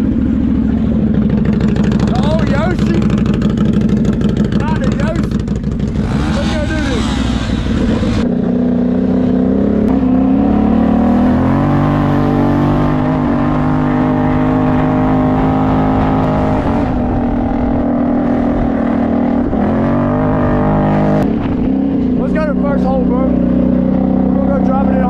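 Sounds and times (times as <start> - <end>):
atv engine droning: 0.0 - 25.0.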